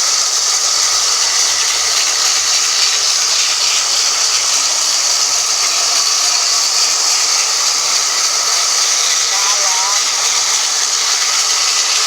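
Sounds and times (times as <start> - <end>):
band sawmill hissing: 0.0 - 12.0.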